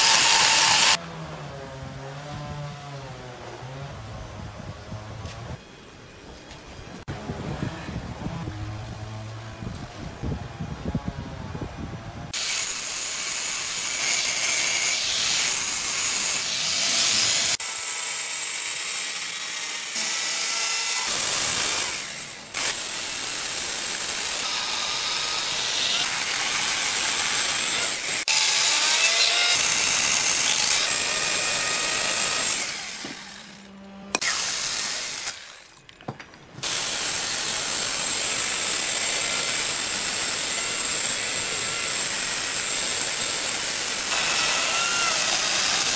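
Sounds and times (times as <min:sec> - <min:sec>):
electric chainsaw cutting log: 0:00.0 - 0:03.9, 0:12.3 - 0:35.8, 0:36.6 - 0:45.9.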